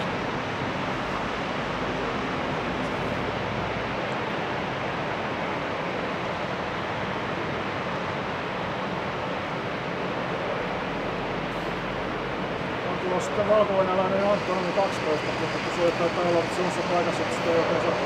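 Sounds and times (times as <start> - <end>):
jet engine rushing: 0.0 - 18.0.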